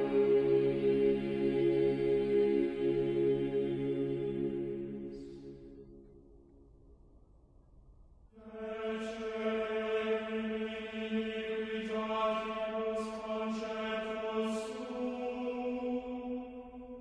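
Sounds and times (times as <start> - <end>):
low chant-like drone: 0.0 - 6.1, 8.4 - 17.0.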